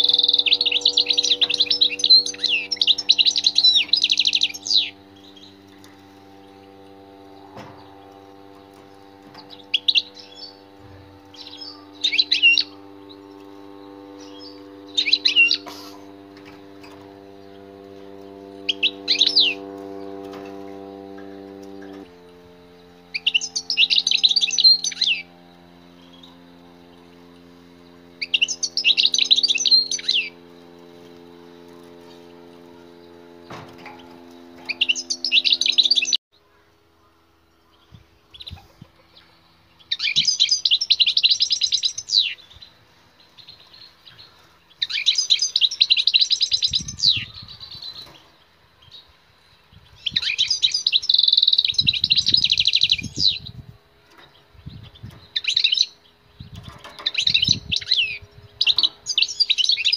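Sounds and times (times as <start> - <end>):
finch twittering song: 0.0 - 36.2, 37.5 - 59.9
low electrical hum: 0.0 - 59.9.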